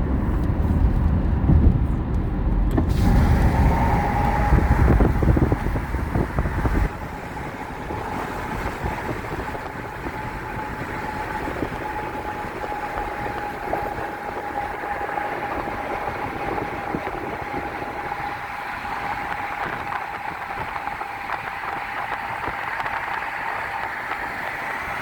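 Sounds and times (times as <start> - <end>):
vehicle road noise: 0.0 - 25.0
mid-pitched whine: 1.9 - 25.0.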